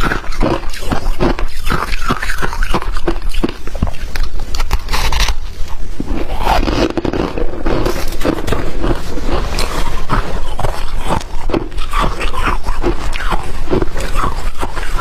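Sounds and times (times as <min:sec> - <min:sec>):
crunching and scraping of frost: 0:00.0 - 0:15.0.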